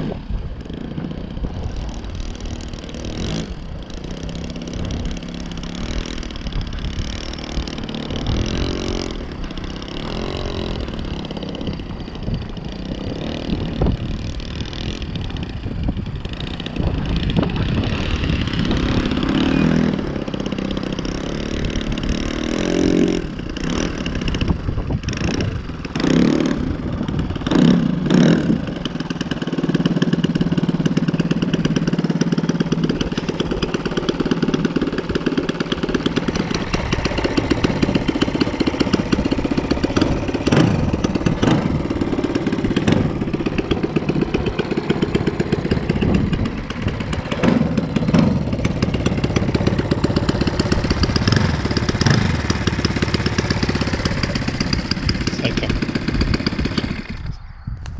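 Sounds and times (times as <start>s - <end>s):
model airplane engine revving: 0.0s - 57.4s.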